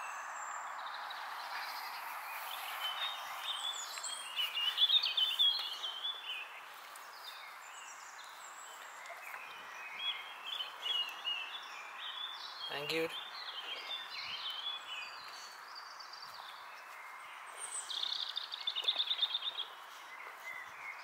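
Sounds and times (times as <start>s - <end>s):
small birds chirping and warbling: 0.0s - 21.0s.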